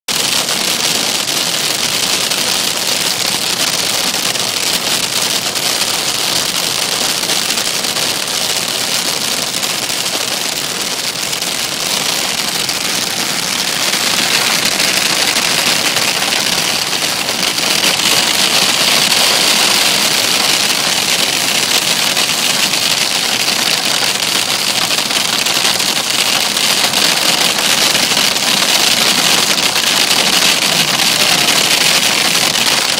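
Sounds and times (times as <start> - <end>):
hailstones pelting a vehicle: 0.1 - 32.9.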